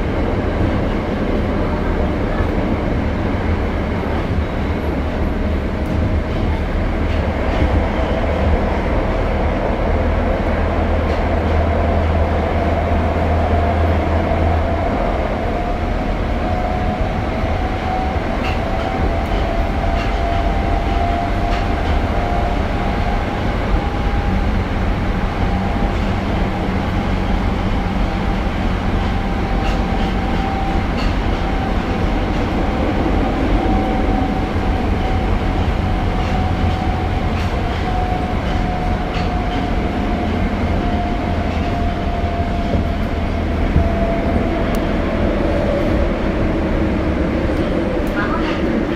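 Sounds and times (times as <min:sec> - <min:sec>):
wheels rumbling on track: 0:00.0 - 0:48.9.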